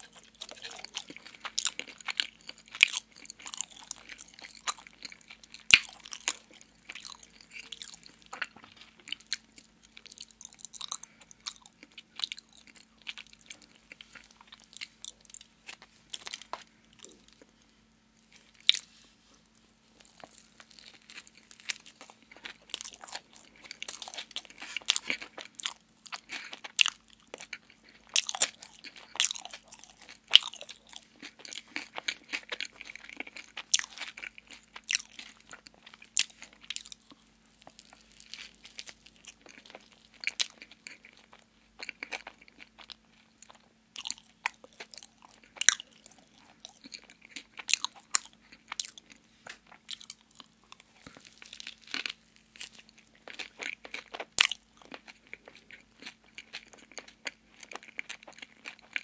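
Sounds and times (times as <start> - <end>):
crunchy chewing: 0.0 - 17.6, 18.2 - 59.0
faint low hum: 0.0 - 59.0.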